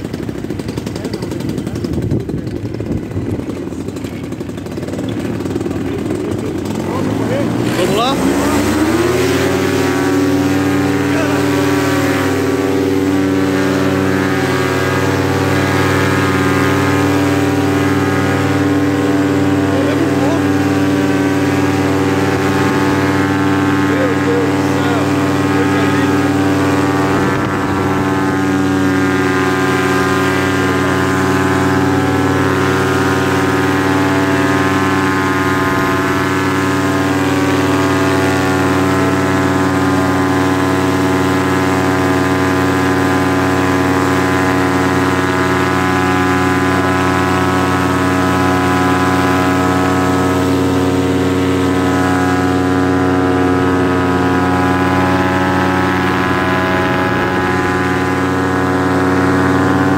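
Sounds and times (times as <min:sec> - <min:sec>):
paramotor engine and propeller: 0:00.0 - 0:59.9.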